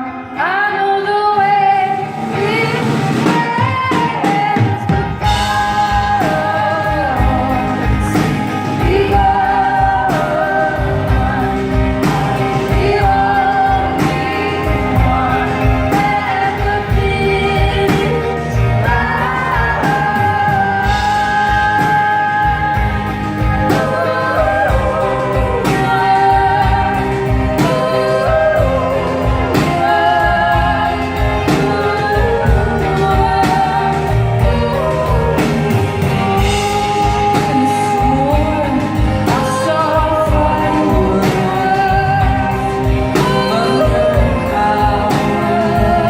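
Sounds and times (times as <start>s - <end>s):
live band with guitars bass drums: 0.0s - 46.0s
two women singing together: 0.0s - 46.0s.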